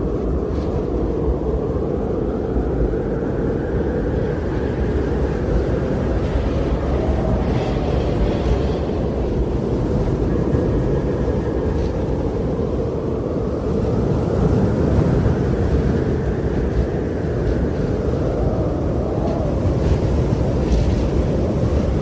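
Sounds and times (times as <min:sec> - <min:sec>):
steady wind rumble: 0:00.0 - 0:22.0.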